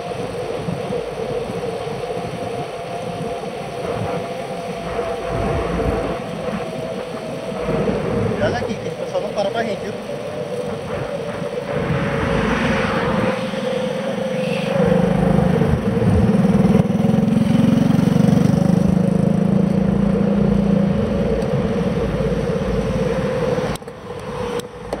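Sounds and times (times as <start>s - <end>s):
wind rushing: 0.0s - 24.9s
road noise: 0.0s - 25.0s.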